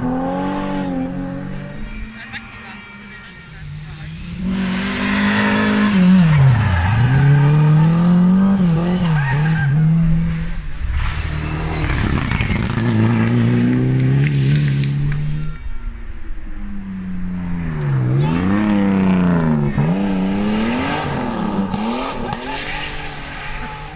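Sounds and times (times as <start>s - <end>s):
rally car engine revving: 0.0s - 15.6s, 16.7s - 23.9s.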